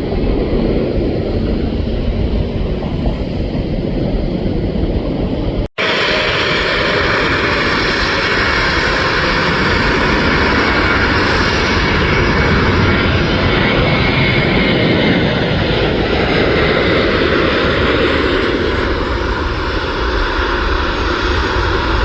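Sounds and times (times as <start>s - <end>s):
jet engines running loud: 0.0s - 22.0s.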